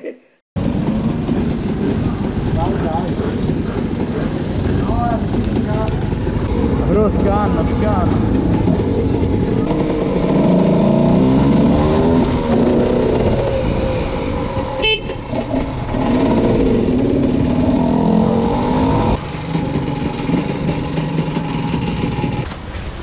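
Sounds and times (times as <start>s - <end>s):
motorcycle engine revving: 0.6s - 23.0s.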